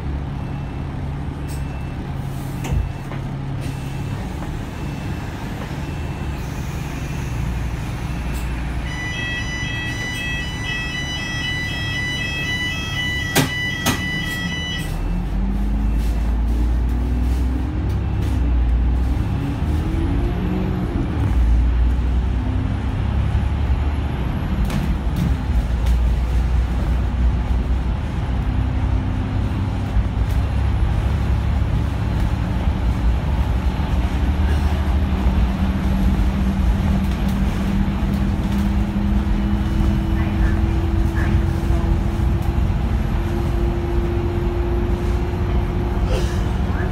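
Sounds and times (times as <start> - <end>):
bus diesel engine drone: 0.0 - 46.9.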